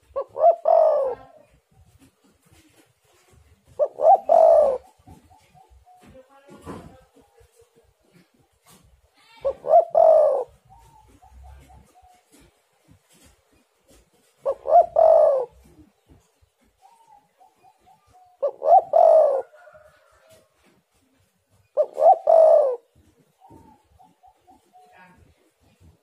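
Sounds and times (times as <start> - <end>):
dove cooing: 0.0 - 7.2, 8.0 - 13.3, 13.9 - 20.4, 21.5 - 26.0.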